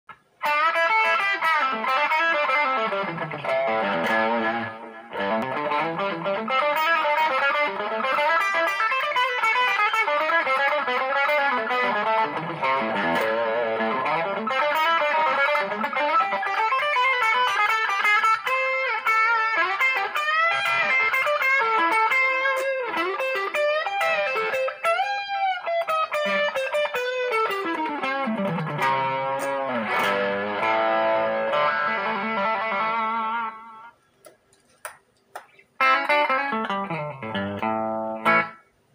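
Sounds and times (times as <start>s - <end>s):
electric guitar lead with bends: 0.4s - 34.0s, 35.8s - 38.7s.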